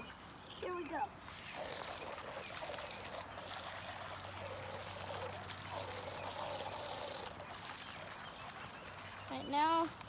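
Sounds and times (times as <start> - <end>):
water splashing and trickling: 0.2 - 10.0.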